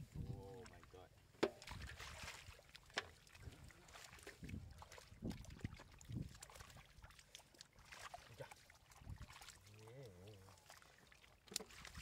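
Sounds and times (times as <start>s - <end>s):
hands splashing in muddy water: 1.5s - 12.0s.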